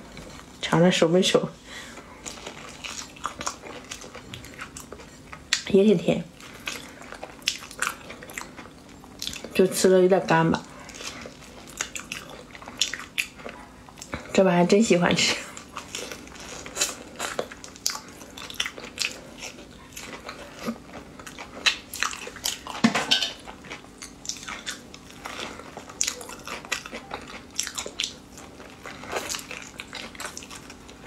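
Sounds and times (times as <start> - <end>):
person chewing with mouth clicks: 2.0 - 5.7, 6.4 - 9.6, 10.6 - 14.4, 15.5 - 31.0.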